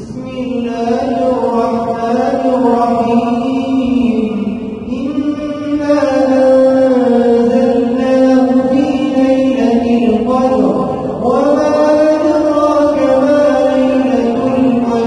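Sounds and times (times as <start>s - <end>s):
man chanting prayer: 0.0s - 15.0s.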